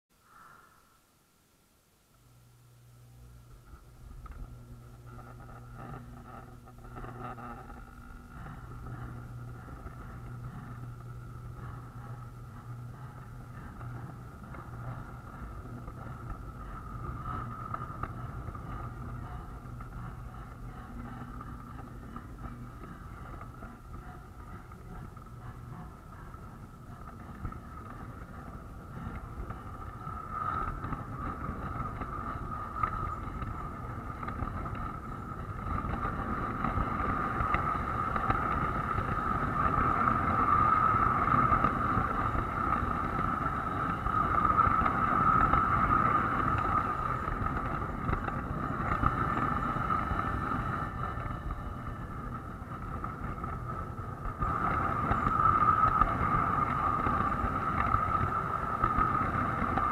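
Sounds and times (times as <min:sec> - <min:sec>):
constant whine: 0:00.1 - 0:59.9
model train wheels rumbling: 0:03.0 - 0:59.9.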